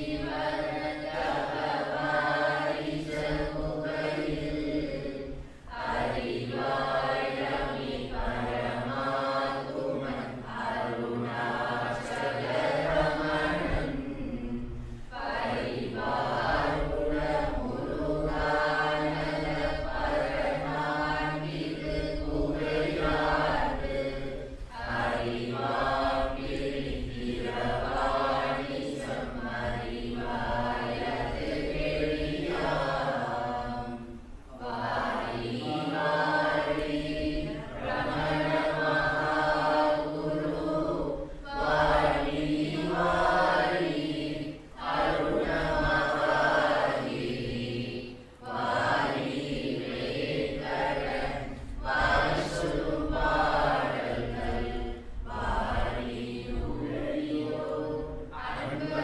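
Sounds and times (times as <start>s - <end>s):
men chanting a hymn: 0.0s - 59.0s.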